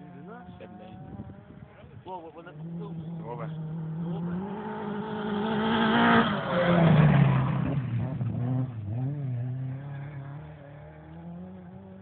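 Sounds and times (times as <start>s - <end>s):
rally car engine passing: 0.0s - 12.0s.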